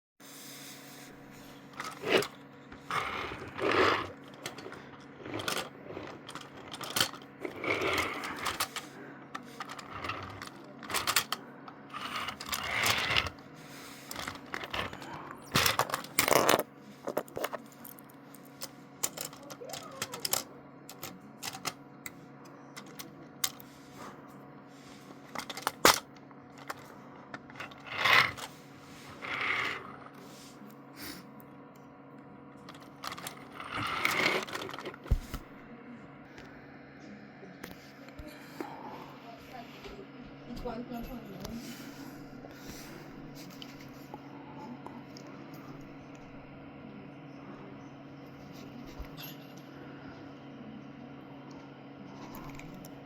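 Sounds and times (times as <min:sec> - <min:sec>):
steady low hum: 0:00.2 - 0:53.0.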